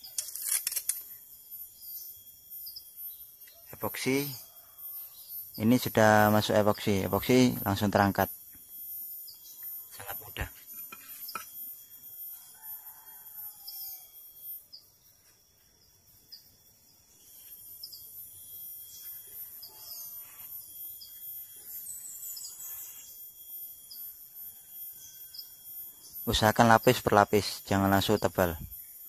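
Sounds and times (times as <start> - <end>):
insects chirping: 0.0 - 29.0
thin high whine: 0.0 - 29.0.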